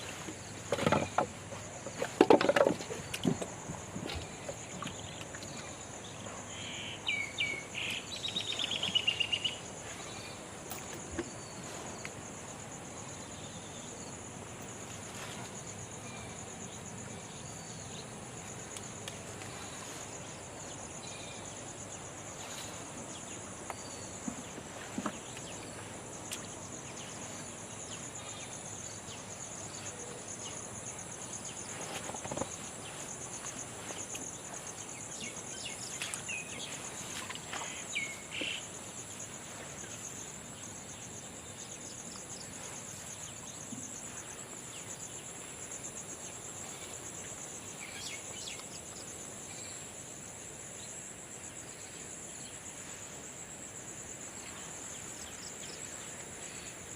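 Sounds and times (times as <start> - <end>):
insects trilling: 0.0 - 56.9.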